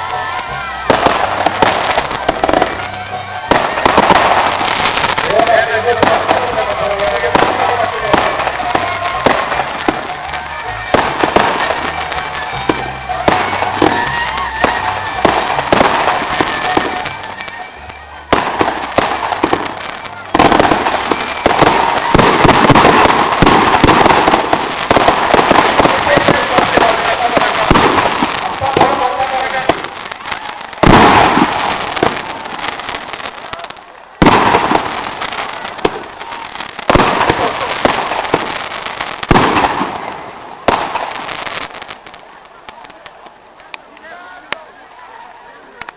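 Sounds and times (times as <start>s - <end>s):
crackling hiss: 0.0s - 45.9s
fireworks bangs: 0.0s - 45.9s.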